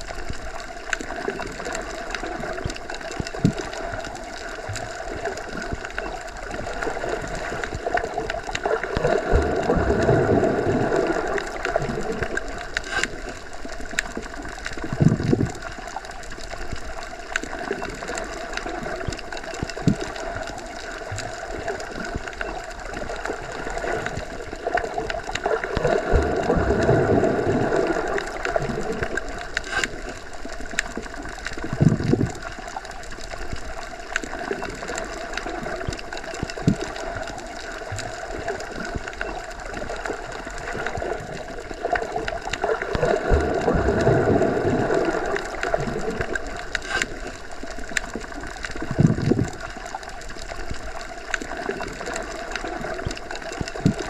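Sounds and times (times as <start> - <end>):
muffled underwater water rush: 0.0 - 54.0.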